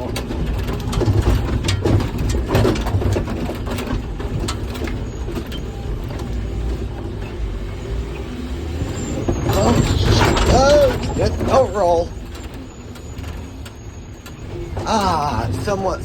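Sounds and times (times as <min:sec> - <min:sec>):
cab rattles and knocks: 0:00.0 - 0:07.4, 0:08.8 - 0:16.0
diesel engine droning: 0:00.0 - 0:16.0.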